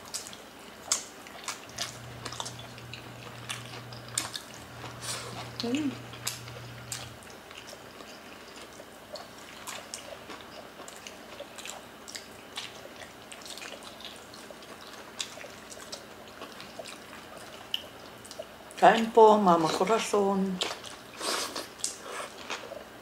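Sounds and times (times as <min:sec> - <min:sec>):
wet chewing and mouth clicks: 0:00.0 - 0:18.8, 0:20.6 - 0:22.8.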